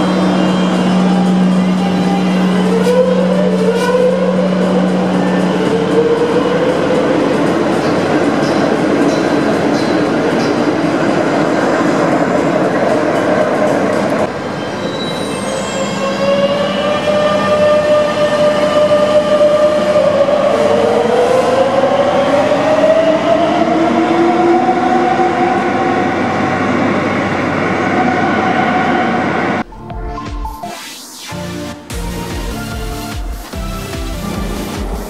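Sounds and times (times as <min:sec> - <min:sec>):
train rail and wheel rumble: 0:00.0 - 0:29.9.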